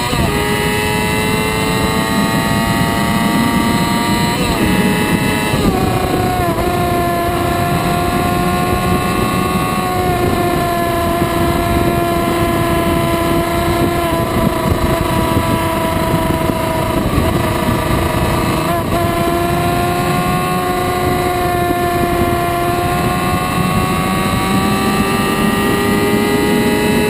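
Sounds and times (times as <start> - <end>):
motorcycle engine at high revs: 0.0 - 27.0
wind noise: 0.0 - 27.0.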